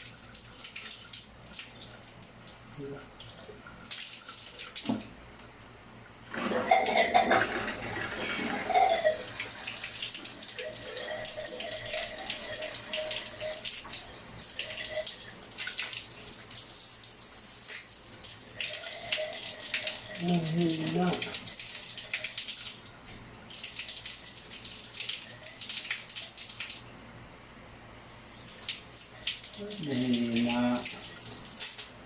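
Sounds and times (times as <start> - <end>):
water running from shower valve: 0.0 - 5.2, 6.4 - 26.9, 28.4 - 32.0.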